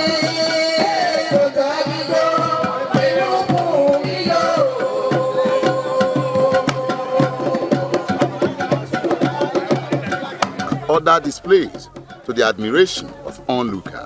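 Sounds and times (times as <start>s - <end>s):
hand drum strokes: 0.0s - 14.0s.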